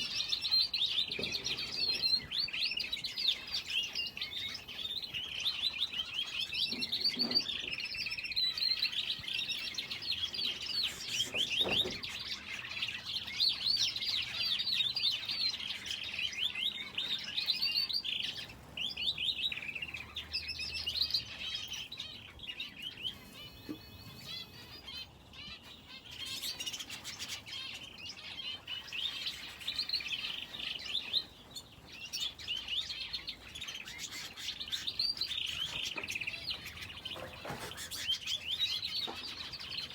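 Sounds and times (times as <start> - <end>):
finches and canary chirping: 0.0 - 39.9.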